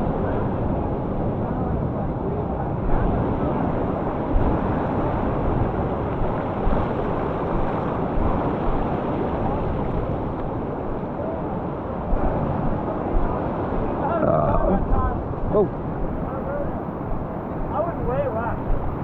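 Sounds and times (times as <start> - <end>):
whitewater rushing: 0.0 - 19.0
wind buffeting microphone: 0.0 - 19.0.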